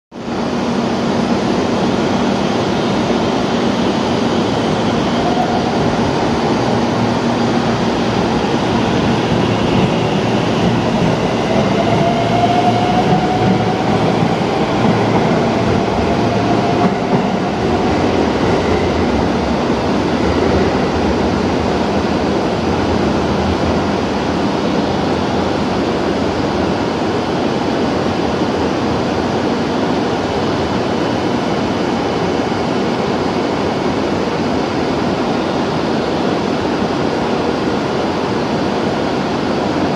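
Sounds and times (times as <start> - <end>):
train rumbling on rails: 0.2 - 39.9.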